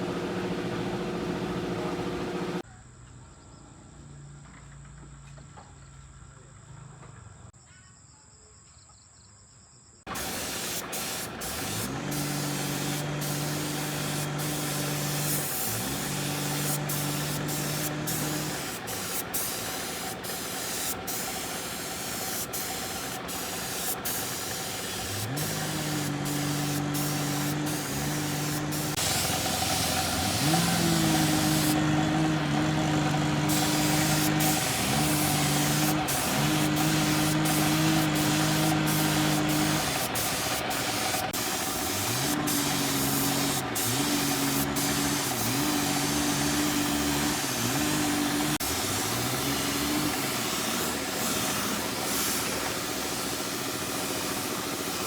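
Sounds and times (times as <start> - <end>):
motor hum rising in pitch: 0.0 - 2.6, 10.1 - 19.3, 20.0 - 53.0
steady hiss: 10.1 - 55.0.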